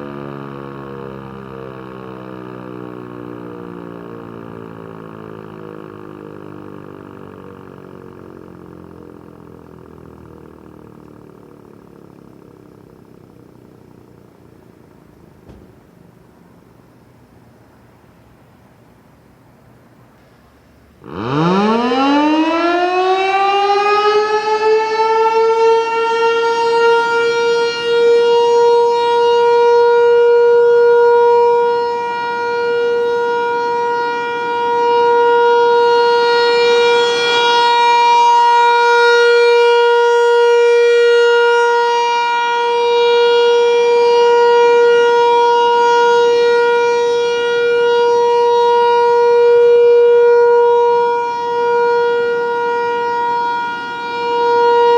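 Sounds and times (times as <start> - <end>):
rotating warning siren: 0.0 - 18.5, 20.6 - 54.9.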